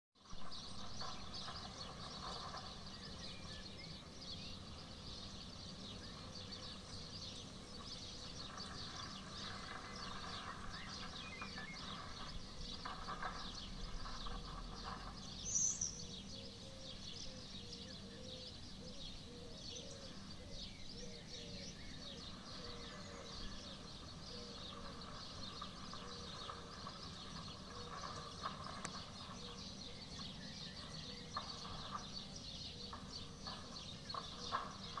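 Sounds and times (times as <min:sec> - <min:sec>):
songbirds chirping: 0:00.2 - 0:35.0
steady low hum: 0:00.2 - 0:35.0.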